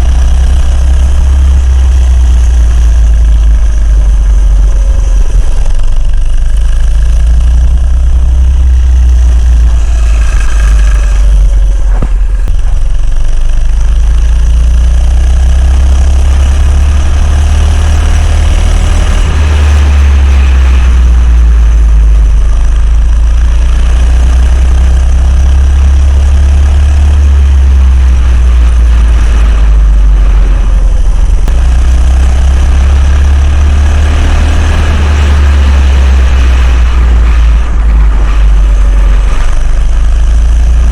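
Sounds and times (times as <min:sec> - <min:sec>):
minibike engine running: 0:00.0 - 0:40.9.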